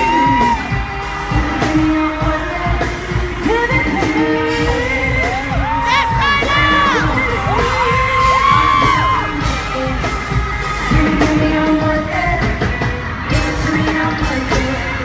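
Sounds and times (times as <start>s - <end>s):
amplified pop music with singing: 0.0s - 15.0s
fans yelling and screaming: 0.0s - 15.0s.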